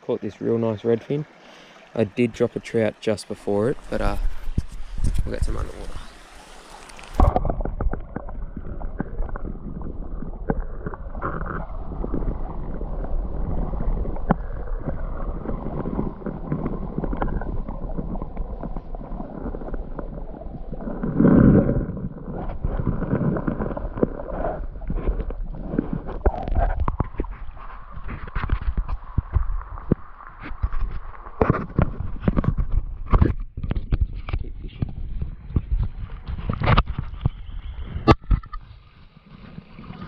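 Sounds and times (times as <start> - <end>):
underwater stream churning: 0.0 - 32.6.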